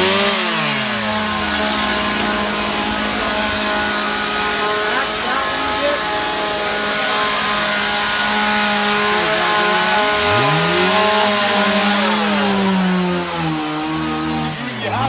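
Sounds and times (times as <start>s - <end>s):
chainsaw revving up: 0.0s - 15.0s
chainsaws running: 0.0s - 15.0s.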